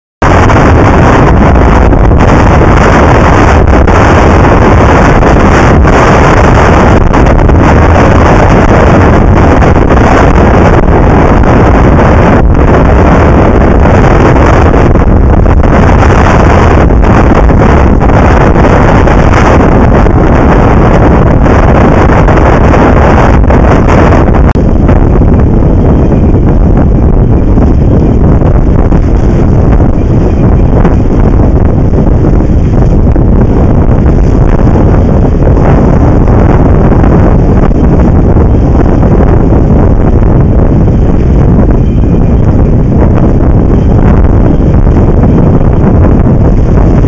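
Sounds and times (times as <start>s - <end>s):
wind blowing across microphone: 0.2s - 47.0s.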